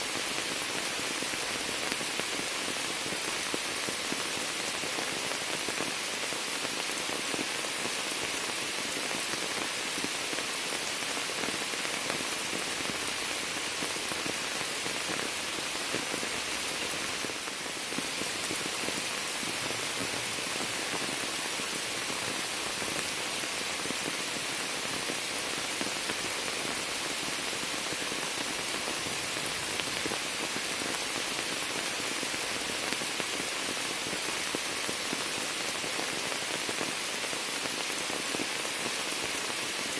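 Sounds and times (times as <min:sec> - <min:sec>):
rain splashing on water and leaves: 0:00.0 - 0:39.9.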